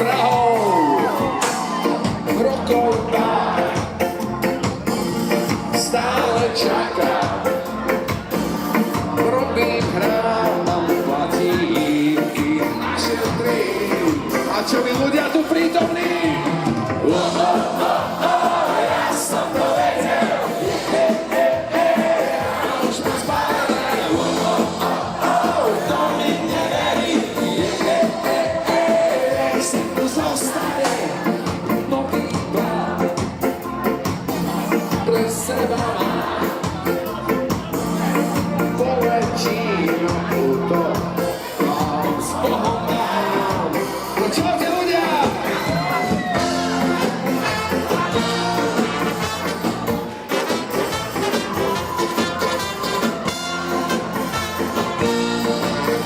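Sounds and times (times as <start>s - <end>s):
live ska band playing: 0.0s - 56.0s.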